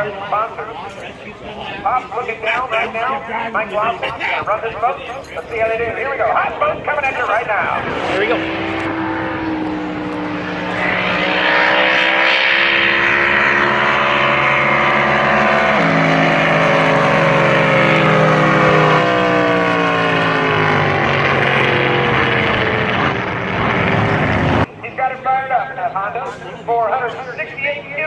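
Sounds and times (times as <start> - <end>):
racing boat engine at full throttle: 0.0 - 24.7.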